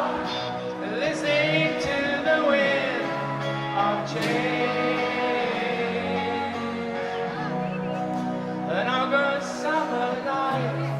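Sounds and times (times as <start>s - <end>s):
man singing: 0.0s - 7.5s, 8.7s - 10.9s
live rock band playing a ballad: 0.0s - 10.9s.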